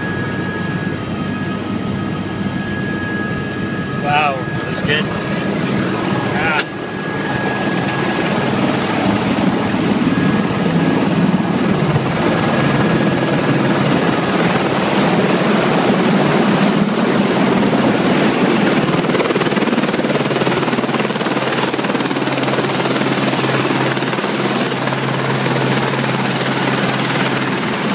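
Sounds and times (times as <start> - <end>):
helicopter engine and rotor: 0.0 - 27.9.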